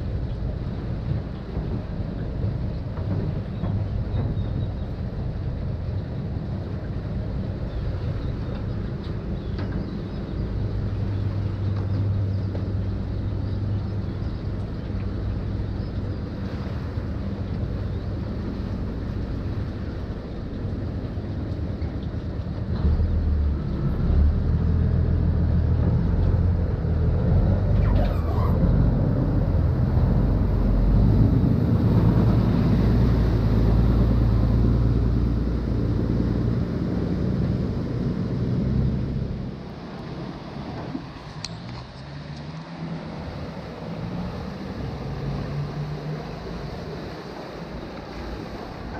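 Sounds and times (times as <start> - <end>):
boat engine droning: 0.0 - 48.9
water and hull noise: 0.0 - 48.9.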